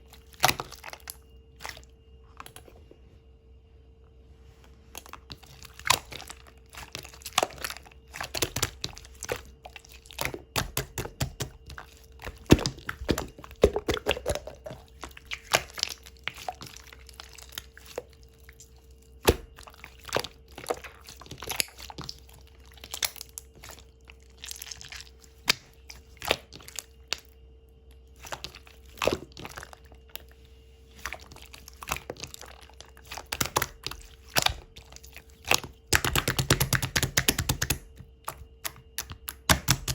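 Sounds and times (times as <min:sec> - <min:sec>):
faint steady hum: 0:00.0 - 0:39.9
slime squishing and crackling: 0:05.0 - 0:27.3, 0:27.9 - 0:30.3, 0:30.9 - 0:39.9.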